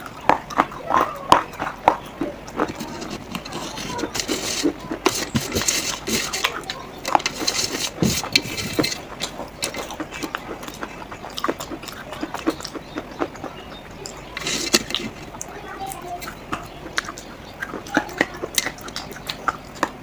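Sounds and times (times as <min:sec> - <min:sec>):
clay crunching and clacking: 0:00.0 - 0:20.0.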